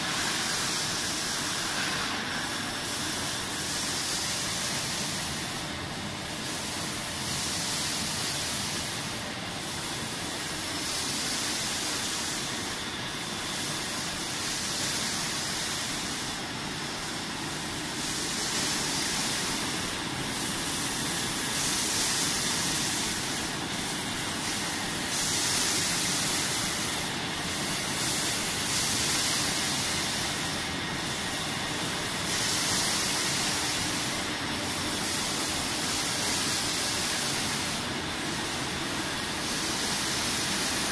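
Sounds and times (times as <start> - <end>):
compressed air hissing: 0.0 - 40.9
machine running noise: 0.0 - 40.9.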